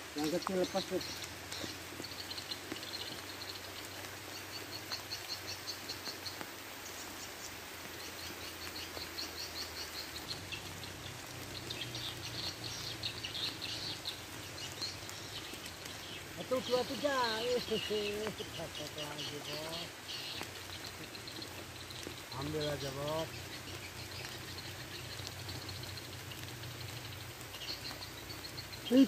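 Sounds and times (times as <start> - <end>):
rain falling on a pond: 0.0 - 29.0.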